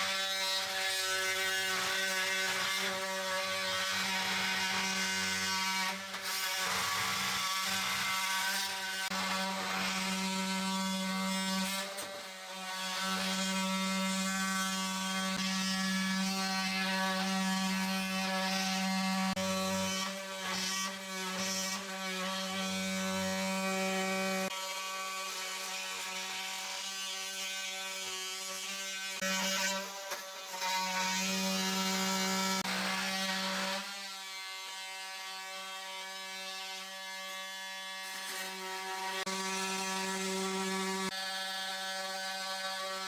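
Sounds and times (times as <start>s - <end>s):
electric power tool buzzing: 0.0s - 43.0s.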